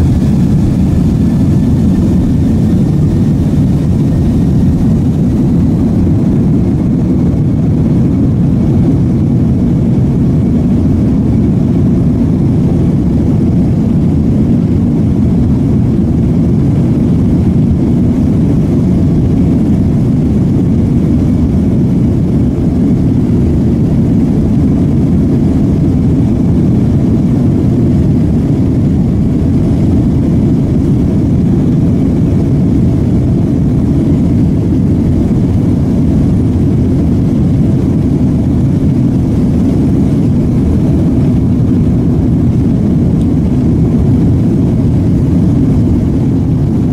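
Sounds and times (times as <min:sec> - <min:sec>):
jet engines deep roar in cabin: 0:00.0 - 0:46.9.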